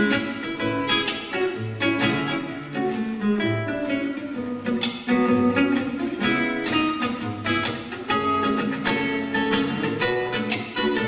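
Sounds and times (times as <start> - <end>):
nylon-string guitar fingerpicking: 0.0 - 11.0.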